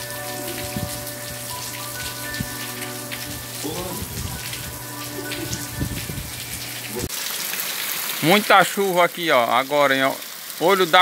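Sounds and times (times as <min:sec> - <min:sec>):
rain pattering on tiled paving: 0:00.0 - 0:11.0.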